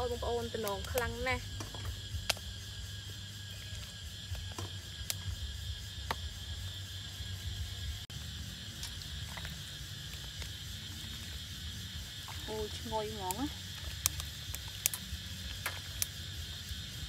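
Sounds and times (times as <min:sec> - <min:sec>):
crickets and night insects: 0:00.0 - 0:17.0.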